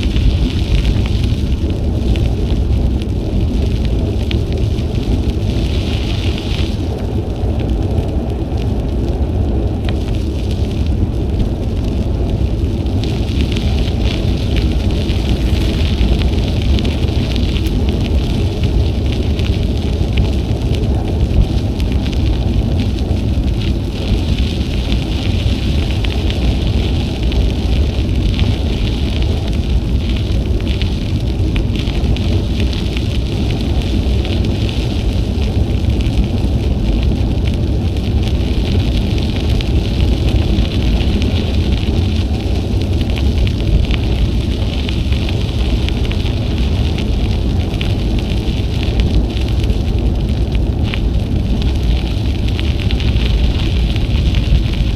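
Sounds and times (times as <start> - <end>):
bicycle tyres rolling on trail: 0.0 - 54.9
wind buffeting microphone: 0.0 - 54.9.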